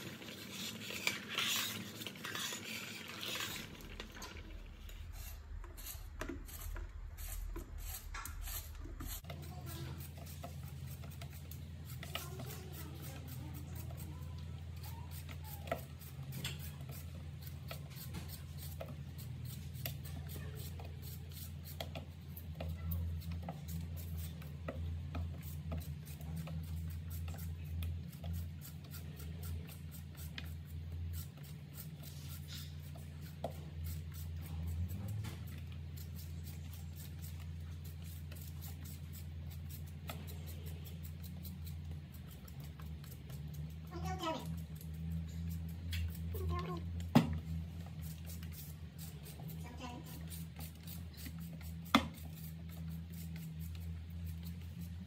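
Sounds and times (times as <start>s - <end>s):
peeler scraping sweet potato: 0.0s - 55.0s
steady low hum: 0.0s - 55.0s.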